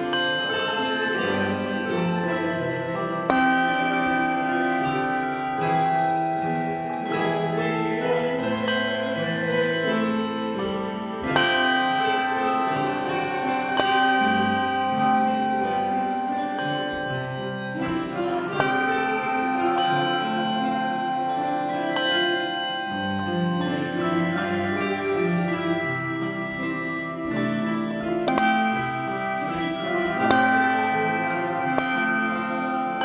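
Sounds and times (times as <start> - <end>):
handbell choir playing: 0.0 - 33.0.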